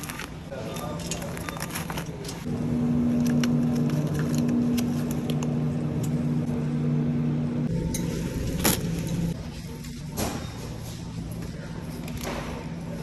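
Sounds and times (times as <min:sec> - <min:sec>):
refrigerator electrical hum: 0:00.0 - 0:13.0.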